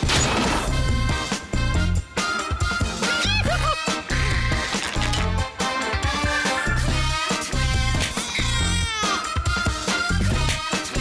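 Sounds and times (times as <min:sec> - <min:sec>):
upbeat cartoon music: 0:00.0 - 0:11.0.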